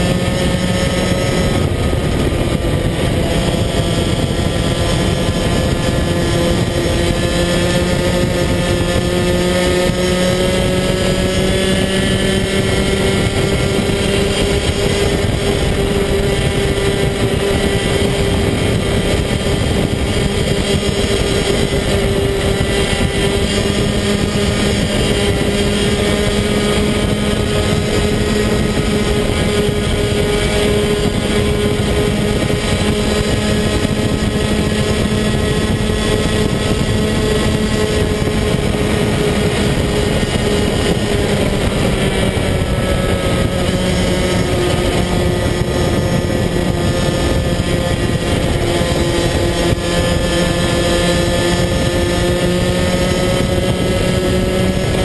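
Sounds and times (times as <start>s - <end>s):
kart engine running: 0.0s - 55.0s.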